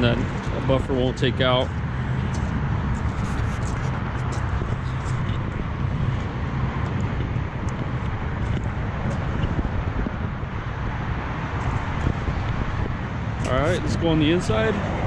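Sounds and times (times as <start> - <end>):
freeway traffic: 0.0 - 15.0
wind buffeting microphone: 0.0 - 15.0.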